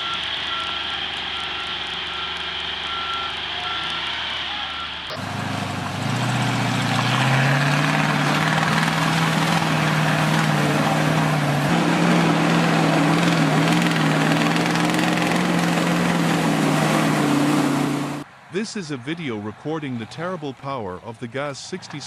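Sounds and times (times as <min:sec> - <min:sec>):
truck diesel engine under load: 0:00.0 - 0:18.3.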